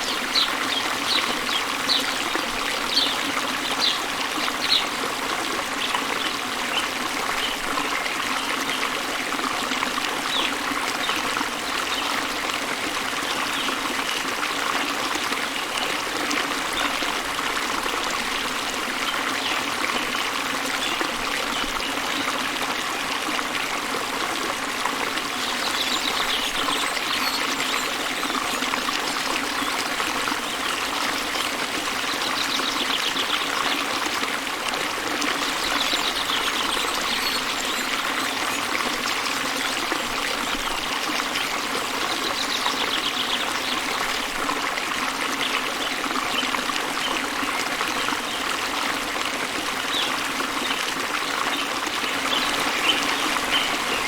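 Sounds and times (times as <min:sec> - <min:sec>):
waterfall rushing water: 0:00.0 - 0:54.0.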